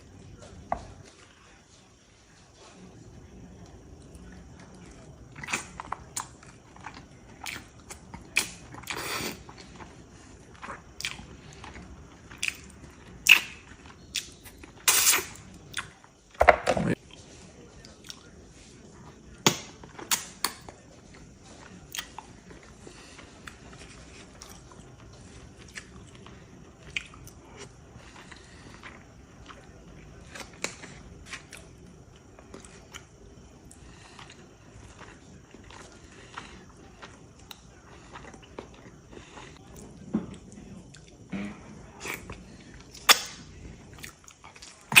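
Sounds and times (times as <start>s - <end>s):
person chewing food: 3.4s - 17.2s, 19.0s - 45.0s.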